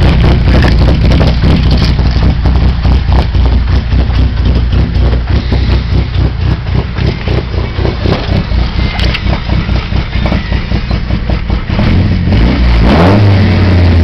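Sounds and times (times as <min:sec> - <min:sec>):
car engine idling choppily: 0:00.0 - 0:12.6.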